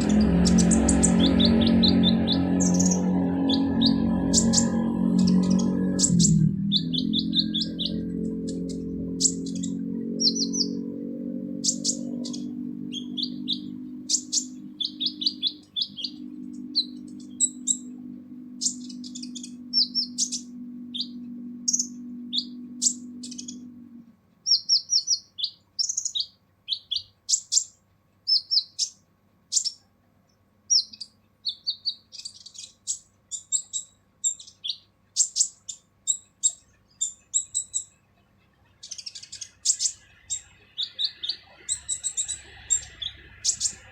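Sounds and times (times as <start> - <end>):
bird chattering calls: 0.0 - 10.9, 11.5 - 23.8, 30.7 - 37.9, 38.8 - 43.9
low steady hum: 0.0 - 43.9.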